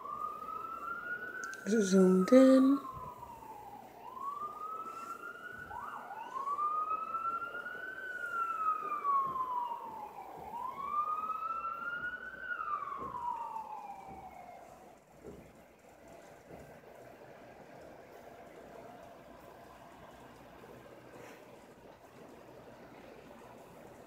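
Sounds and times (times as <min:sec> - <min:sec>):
emergency vehicle siren wailing: 0:00.0 - 0:24.0.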